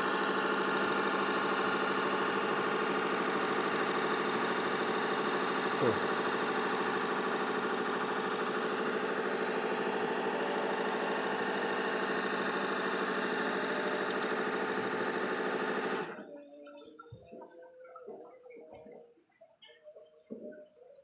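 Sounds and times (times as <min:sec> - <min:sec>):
machine motor mechanical chatter: 0:00.0 - 0:18.8.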